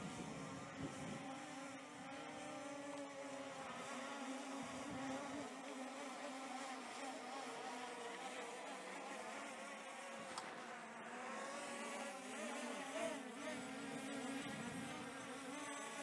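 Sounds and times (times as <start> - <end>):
drone buzzing hum: 0.0 - 16.0.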